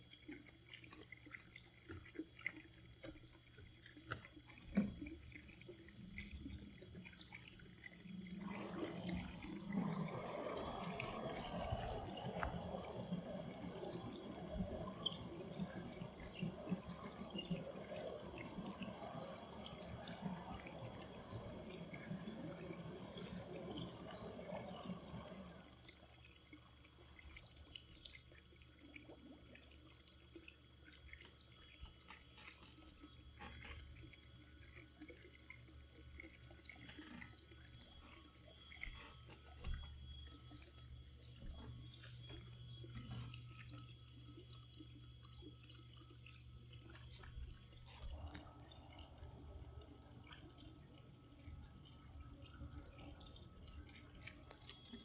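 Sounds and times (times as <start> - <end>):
water dripping and trickling: 0.0 - 55.0.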